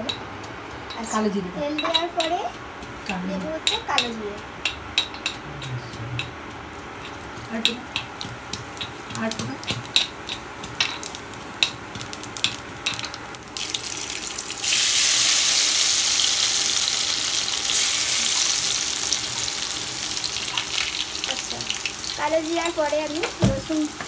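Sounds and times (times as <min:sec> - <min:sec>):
garlic sizzling in oil: 0:00.0 - 0:24.0
seeds crackling in hot oil: 0:00.0 - 0:24.0.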